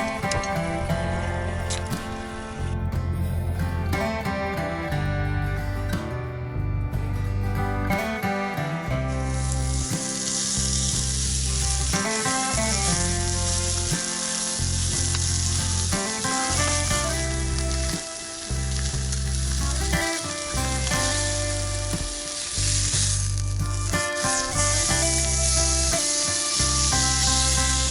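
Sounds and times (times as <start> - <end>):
background music: 0.0 - 27.9.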